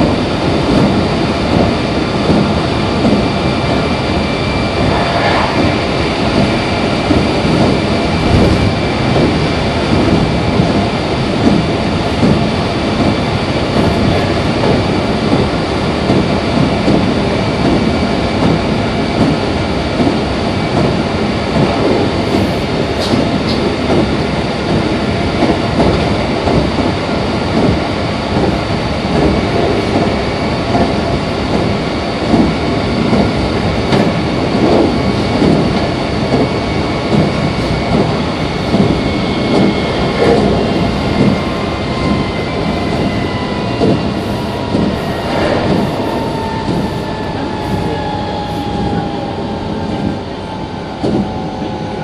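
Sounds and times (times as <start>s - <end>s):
train whine sliding down: 0.0s - 19.5s, 20.3s - 52.0s
electric train rumbling on board: 0.0s - 52.0s.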